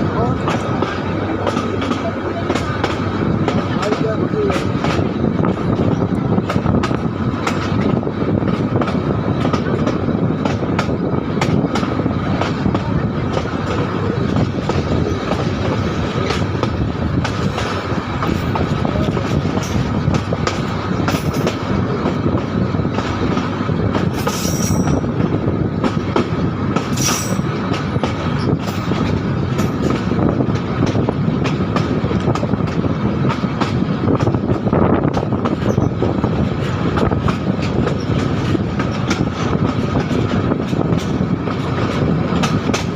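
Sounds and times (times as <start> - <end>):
sharp rail clicks: 0.0 - 42.9
train wheels rumbling on rails: 0.0 - 42.9.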